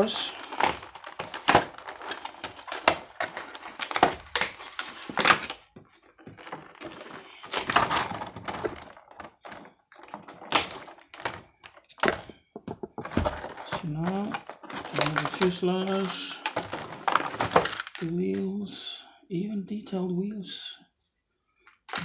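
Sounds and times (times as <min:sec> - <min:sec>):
packaging crinkling and rustling: 0:00.0 - 0:18.6.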